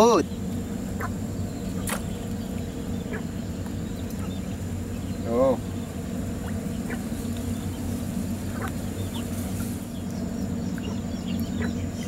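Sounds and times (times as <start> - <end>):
faint bird chirps: 0.0 - 12.0
steady low hum: 0.0 - 12.0.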